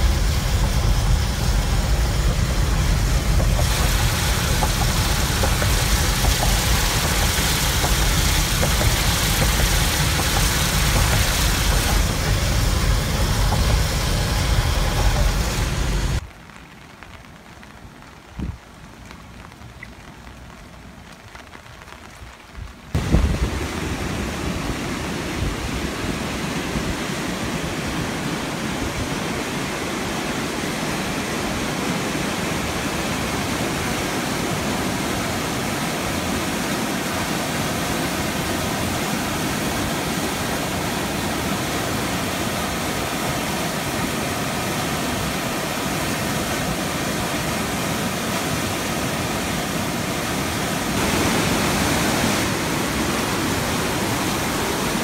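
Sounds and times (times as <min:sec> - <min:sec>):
floodwater pouring over spillway: 0:00.0 - 0:21.9, 0:22.9 - 0:55.0.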